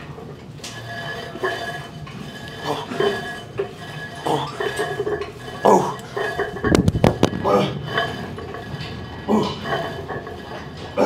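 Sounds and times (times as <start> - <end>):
metal weight plates clanking: 0.6 - 11.0.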